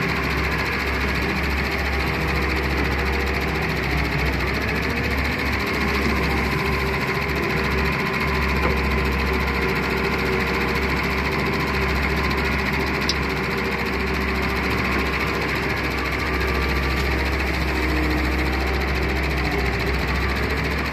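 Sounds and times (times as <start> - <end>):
excavator diesel engine running: 0.0 - 20.9
excavator digging and dumping sand: 0.0 - 20.9.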